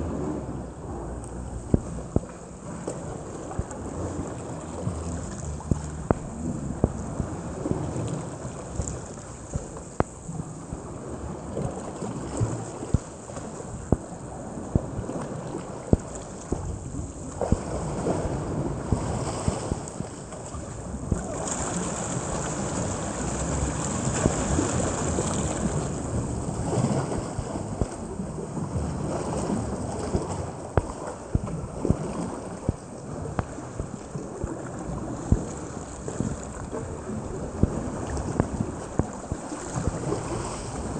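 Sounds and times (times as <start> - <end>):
paddles splashing: 0.0 - 28.4, 29.3 - 40.9.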